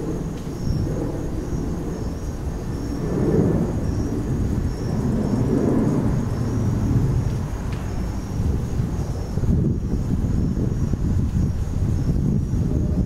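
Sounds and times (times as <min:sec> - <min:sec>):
crickets chirping: 0:00.0 - 0:13.0
wind buffeting microphone: 0:00.0 - 0:13.0.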